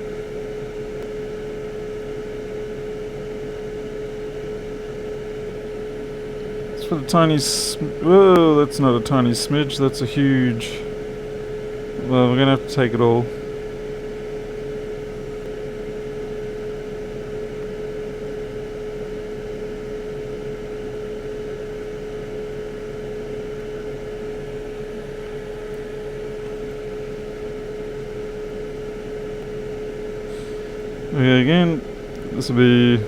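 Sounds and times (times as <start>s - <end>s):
electric fan whirring: 0.0s - 33.0s.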